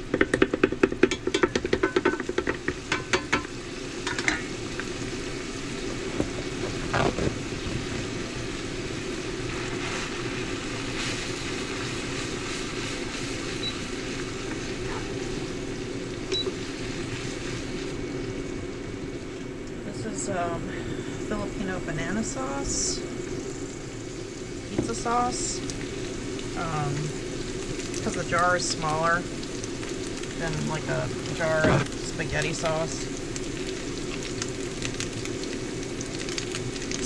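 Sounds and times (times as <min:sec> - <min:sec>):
food sizzling in a pan: 0:00.0 - 0:37.0.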